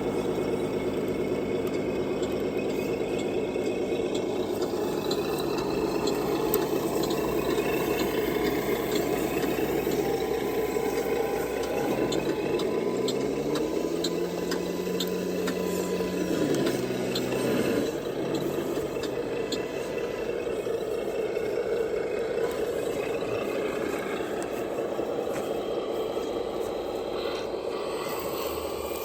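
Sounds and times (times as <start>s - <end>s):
drivetrain whir: 0.0s - 29.0s
simulated diesel engine sound: 0.0s - 29.0s.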